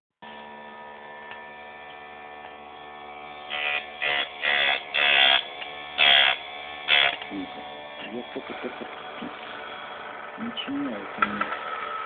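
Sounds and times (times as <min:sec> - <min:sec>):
electric motor humming: 0:00.2 - 0:12.0.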